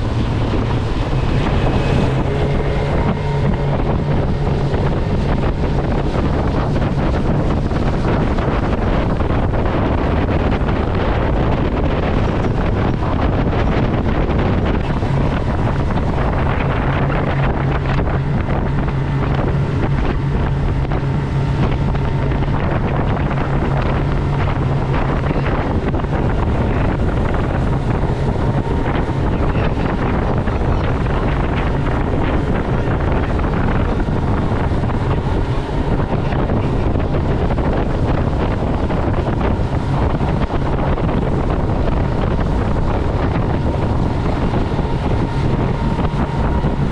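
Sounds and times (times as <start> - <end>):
outboard motor running: 0.0 - 46.9
rushing water: 0.0 - 46.9
wind buffeting on microphone: 0.0 - 46.9.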